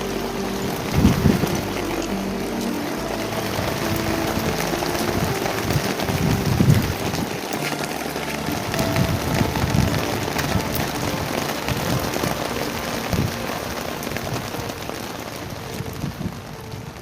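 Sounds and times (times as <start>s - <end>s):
heavy rain pattering: 0.0s - 17.0s.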